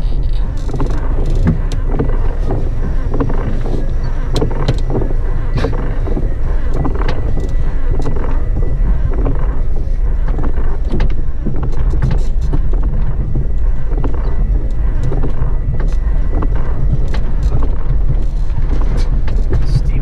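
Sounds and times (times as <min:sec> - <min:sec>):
engine and tyres rumbling: 0:00.0 - 0:20.0
vehicle knocks and rattles: 0:00.0 - 0:20.0.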